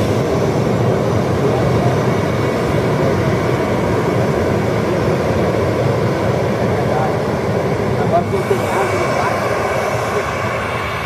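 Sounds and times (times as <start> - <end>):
jet engines droning: 0.0 - 11.0.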